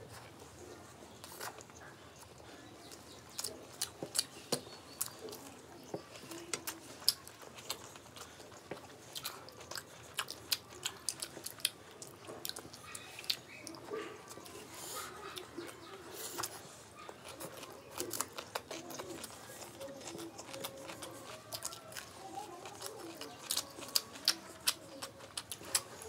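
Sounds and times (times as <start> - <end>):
chewing with mouth clicks: 0.1 - 26.0.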